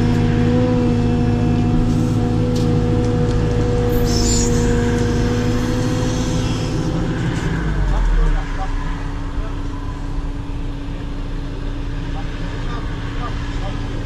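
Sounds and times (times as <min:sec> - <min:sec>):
diesel engine rumble: 0:00.0 - 0:14.0
steady whine: 0:00.0 - 0:14.0.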